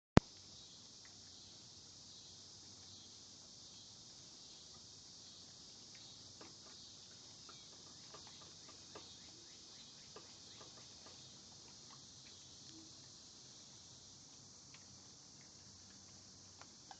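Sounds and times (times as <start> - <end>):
crickets chirping: 0.2 - 16.9.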